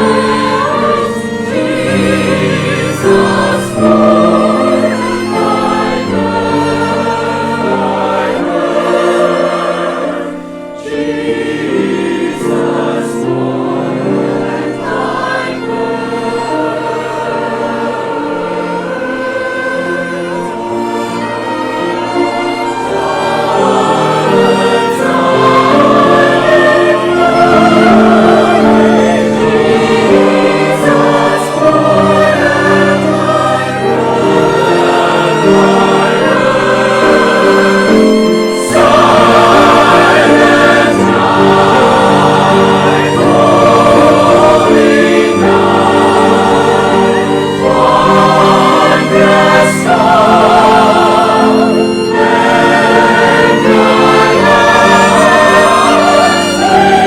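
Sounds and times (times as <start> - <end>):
choir singing: 0.0 - 57.0
orchestral accompaniment: 0.0 - 57.0.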